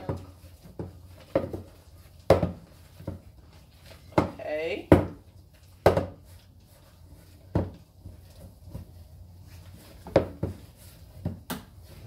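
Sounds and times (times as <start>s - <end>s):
hands mixing dough in bowl: 0.0s - 12.0s.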